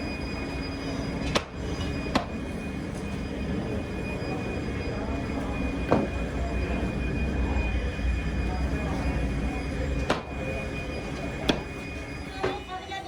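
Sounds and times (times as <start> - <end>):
factory machine whine: 0.0 - 13.0.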